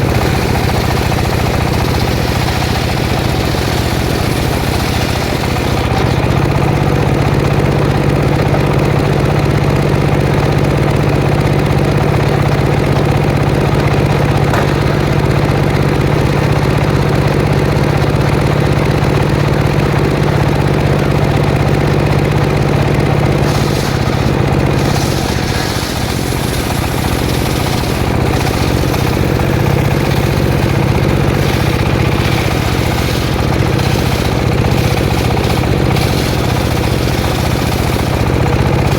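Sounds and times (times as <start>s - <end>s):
petrol circular saw running: 0.0s - 38.9s.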